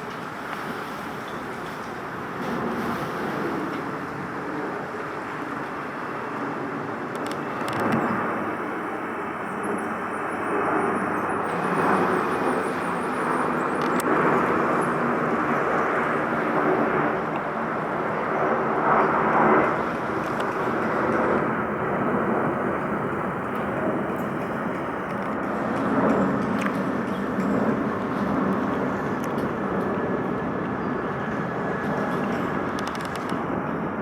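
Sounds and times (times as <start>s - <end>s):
distant engines rumbling: 5.0s - 33.8s.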